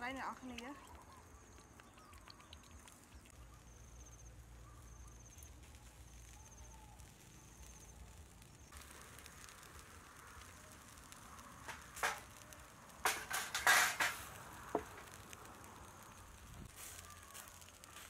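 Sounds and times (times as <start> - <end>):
fish sizzling on charcoal grill: 0.0 - 18.0.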